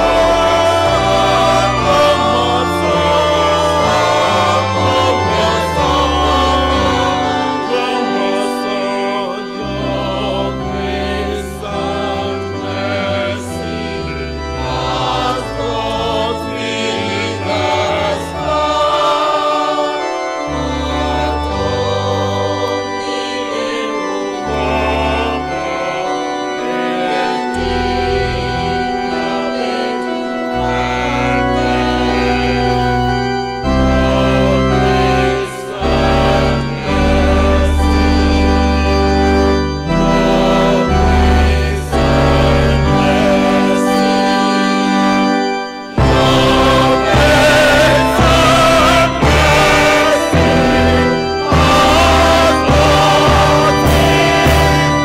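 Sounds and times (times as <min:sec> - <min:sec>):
choir singing a hymn: 0:00.0 - 0:55.0
organ playing: 0:00.0 - 0:55.0.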